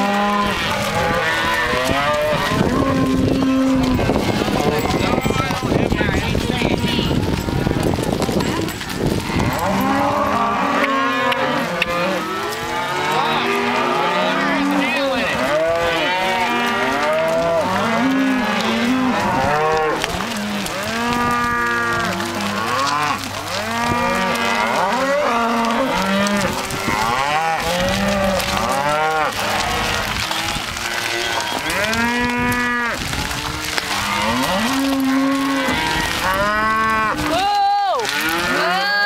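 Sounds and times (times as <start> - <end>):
cattle mooing and bawling: 0.0 - 5.6, 8.4 - 39.0.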